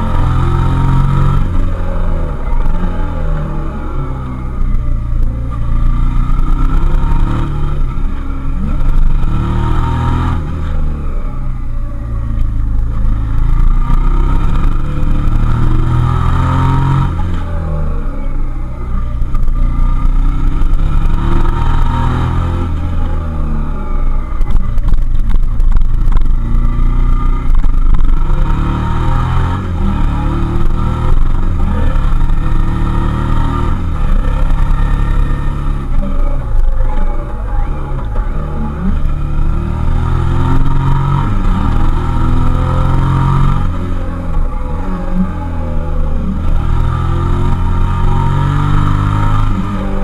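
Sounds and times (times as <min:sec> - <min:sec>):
low rumble: 0:00.0 - 0:50.0
motorcycle engine accelerating: 0:00.0 - 0:50.0.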